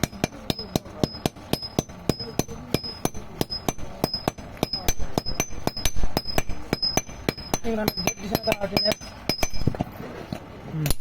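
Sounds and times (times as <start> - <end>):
hammer striking iron on anvil: 0.0 - 10.0.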